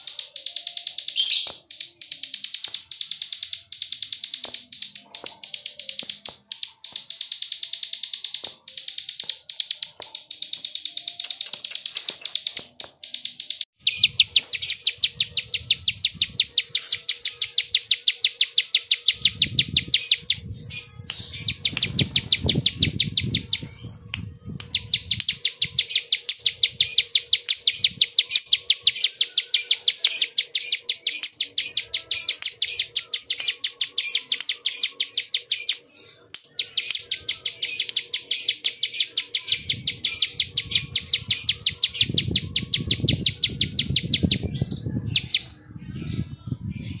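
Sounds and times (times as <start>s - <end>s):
bird clicking call: 0.0s - 20.4s, 24.6s - 44.3s.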